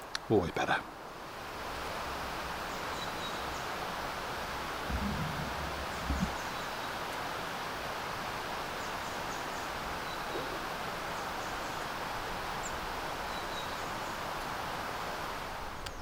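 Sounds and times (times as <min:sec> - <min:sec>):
constant rushing hiss: 0:00.0 - 0:16.0
small birds chirping: 0:02.0 - 0:16.0.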